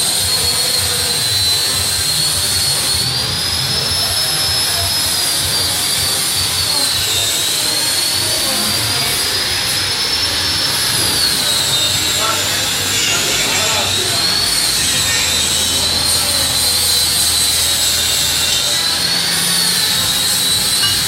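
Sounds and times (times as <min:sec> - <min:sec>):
power tool motor whining: 0:00.0 - 0:21.0.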